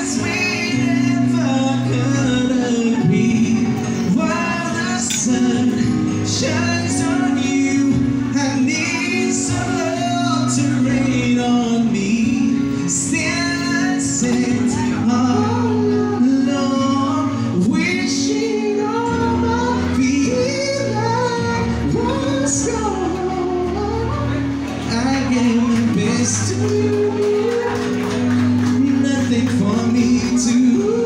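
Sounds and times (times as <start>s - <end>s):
live band playing: 0.0s - 31.0s.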